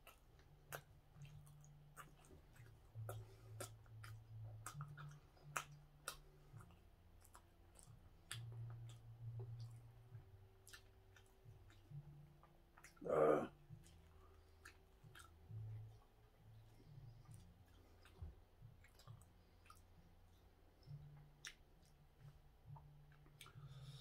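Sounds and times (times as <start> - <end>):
chewing mouth clicks and smacks: 0.0 - 24.0.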